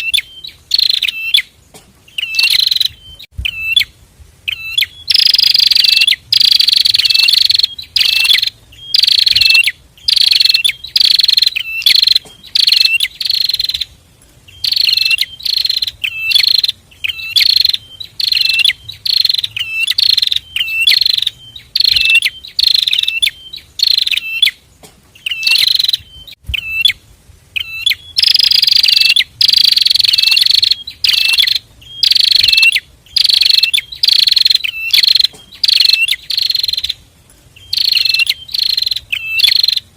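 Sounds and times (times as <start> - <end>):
birds singing buzzy phrases: 0.0 - 39.9.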